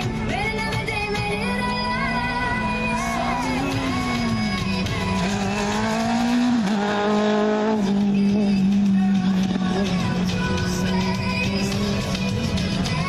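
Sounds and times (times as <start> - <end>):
background music: 0.0 - 13.0
race car engine running: 0.0 - 13.0.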